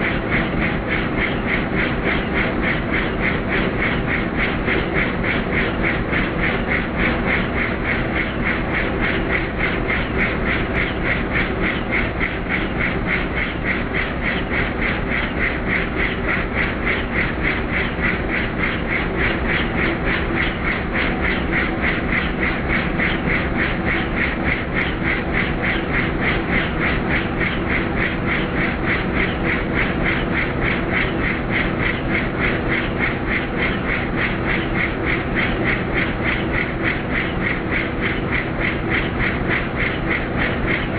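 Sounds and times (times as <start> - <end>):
helicopter rotor blades chopping: 0.0 - 40.9
turbine engine whine: 0.0 - 40.9.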